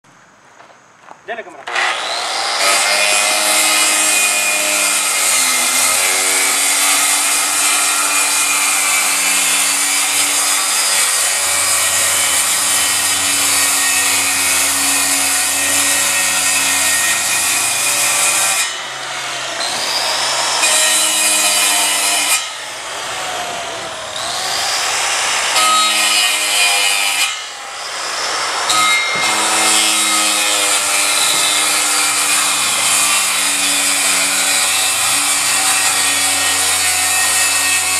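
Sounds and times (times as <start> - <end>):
power saw cutting wood sheathing: 1.6 - 37.9.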